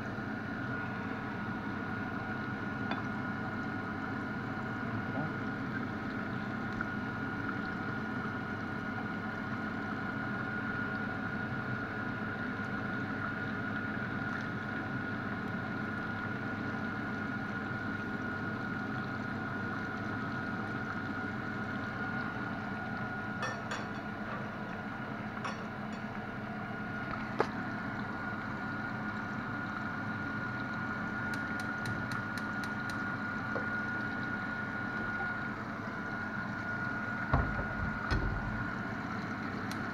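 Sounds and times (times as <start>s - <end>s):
chicken frying in hot oil: 0.0s - 39.9s.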